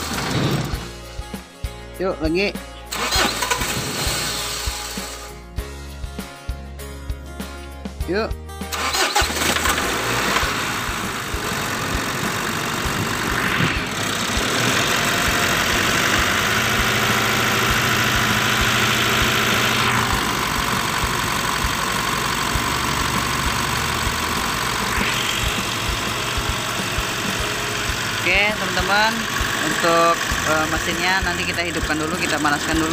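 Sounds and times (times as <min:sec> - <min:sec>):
diesel engine idling: 0:02.8 - 0:05.4, 0:08.7 - 0:32.9.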